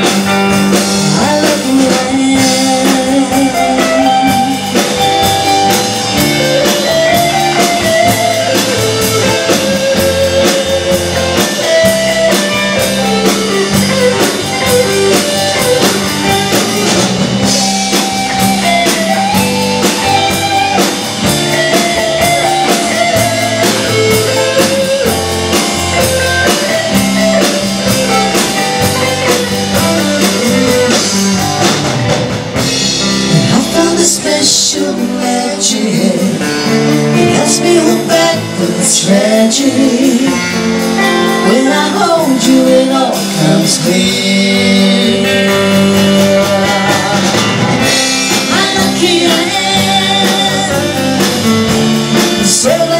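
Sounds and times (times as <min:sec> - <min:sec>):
drum kit beat: 0:00.0 - 0:52.9
electric guitars: 0:00.0 - 0:52.9.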